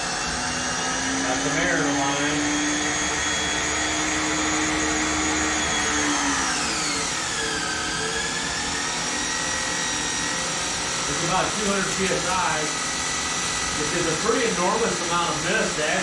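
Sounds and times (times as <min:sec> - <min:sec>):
pressure washer motor whining: 0:00.0 - 0:16.0.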